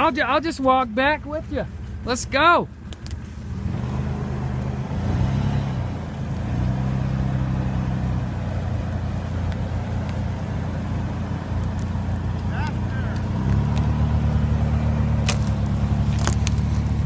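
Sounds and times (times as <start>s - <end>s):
suv engine running: 0.0s - 17.0s.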